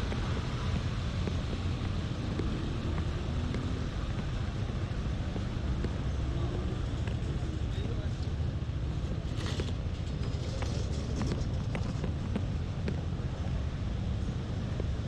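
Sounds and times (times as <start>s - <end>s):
traffic rumble: 0.0s - 15.0s
wind buffeting microphone: 0.0s - 15.0s.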